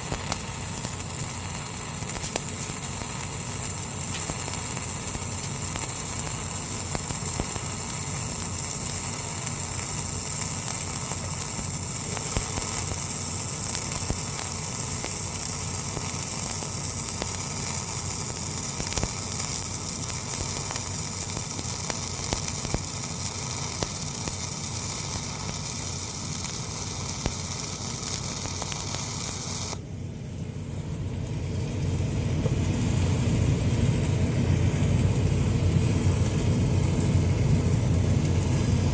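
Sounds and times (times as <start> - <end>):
welding arc crackling and hissing: 0.0 - 38.9.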